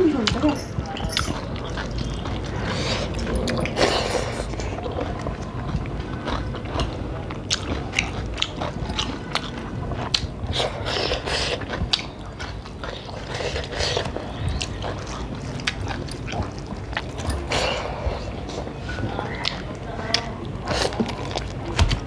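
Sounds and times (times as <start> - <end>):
close chewing and eating: 0.0 - 22.0.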